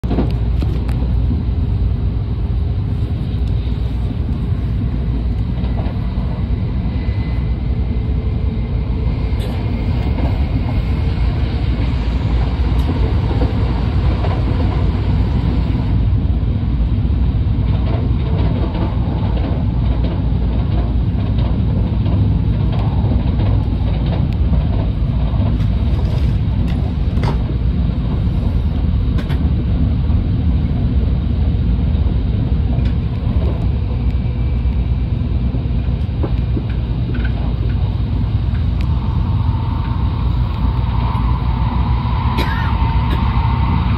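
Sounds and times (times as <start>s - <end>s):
train low rumble: 0.0s - 43.9s
faint train whine: 0.1s - 43.9s.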